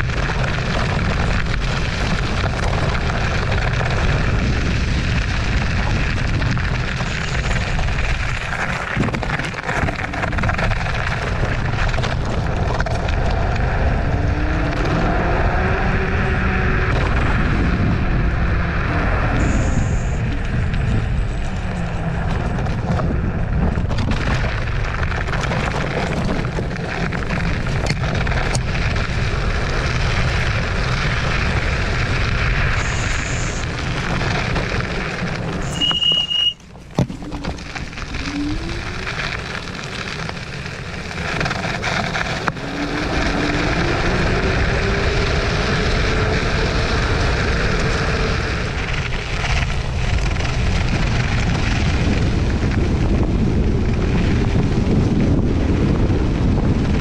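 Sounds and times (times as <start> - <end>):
tyres rumbling over gravel: 0.0 - 57.0
wind buffeting microphone: 0.0 - 57.0.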